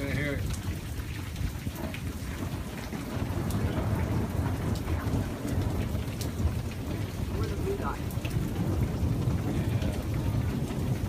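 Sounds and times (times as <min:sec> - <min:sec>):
steady rain falling: 0:00.0 - 0:11.0
thunder rumbling: 0:00.0 - 0:11.0.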